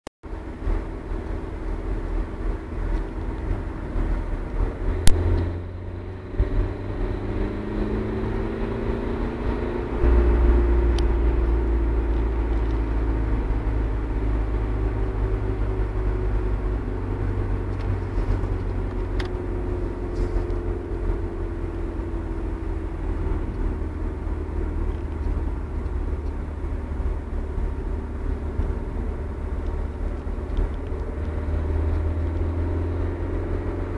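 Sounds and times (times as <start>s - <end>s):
car engine braking rumble: 0.3s - 33.9s.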